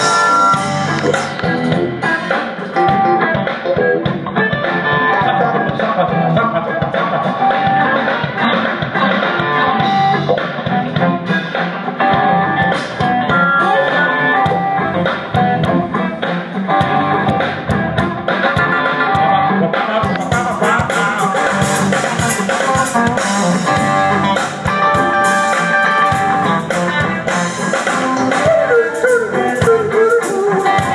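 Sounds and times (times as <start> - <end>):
electric guitar: 0.0 - 30.9
live blues rock band: 0.0 - 30.9.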